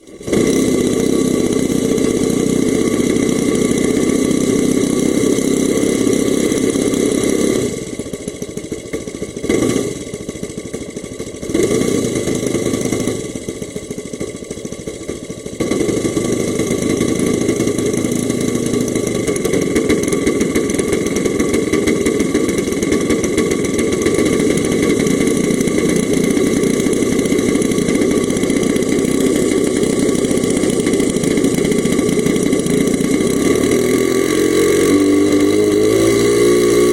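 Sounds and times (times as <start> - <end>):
model plane engine running: 0.0 - 36.9.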